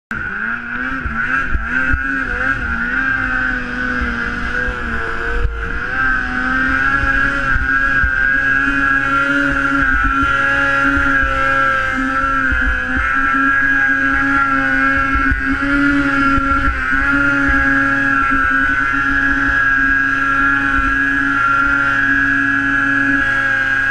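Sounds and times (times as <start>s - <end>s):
snowmobile engine revving high: 0.1s - 23.9s.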